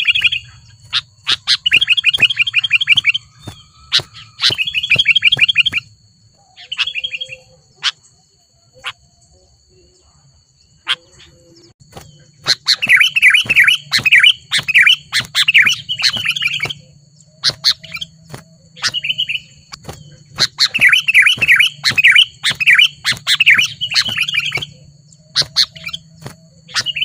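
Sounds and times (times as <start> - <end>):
bulbuls chattering calls: 0.0 - 10.1, 10.8 - 27.0.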